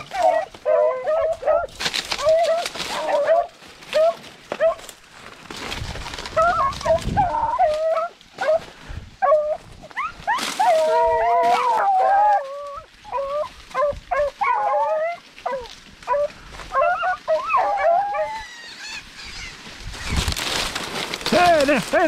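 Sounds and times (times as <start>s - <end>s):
dogs baying and howling: 0.0s - 5.0s, 6.3s - 19.6s.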